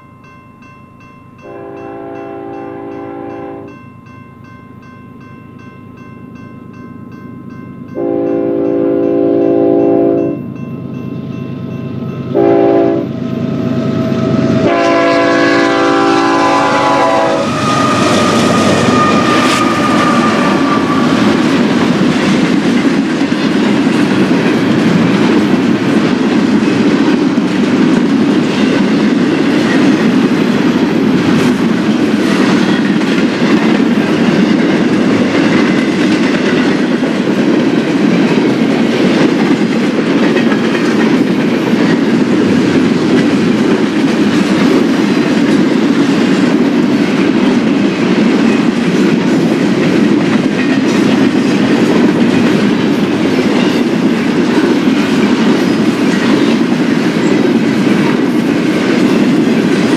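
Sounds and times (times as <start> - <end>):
freight train wheels rumbling on rail: 4.8 - 59.9.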